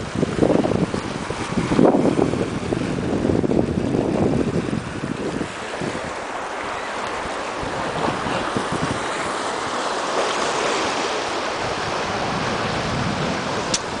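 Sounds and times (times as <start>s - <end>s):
small waves washing in shallows: 0.0s - 14.0s.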